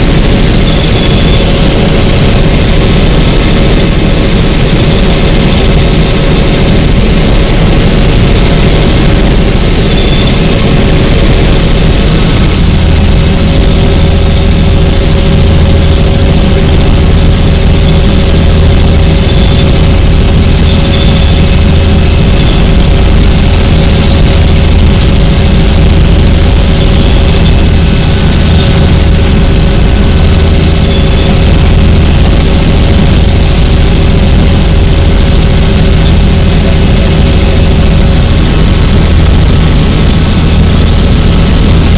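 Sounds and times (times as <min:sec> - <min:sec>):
helicopter turbine whine: 0:00.0 - 0:41.9.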